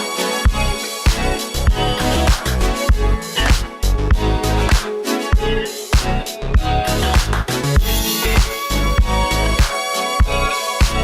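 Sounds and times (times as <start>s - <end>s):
funk music with bass: 0.0s - 11.0s.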